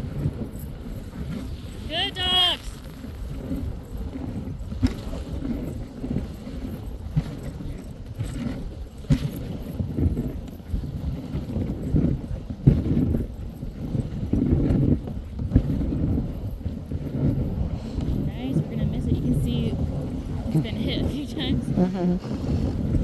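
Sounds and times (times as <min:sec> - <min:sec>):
sled rumbling over trail: 0:00.0 - 0:23.0.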